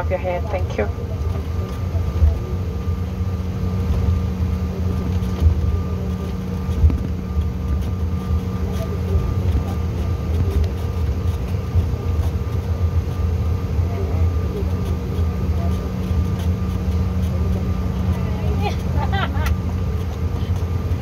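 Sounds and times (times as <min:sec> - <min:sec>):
aircraft cabin rumble: 0:00.0 - 0:21.0
jet engines humming: 0:00.0 - 0:21.0.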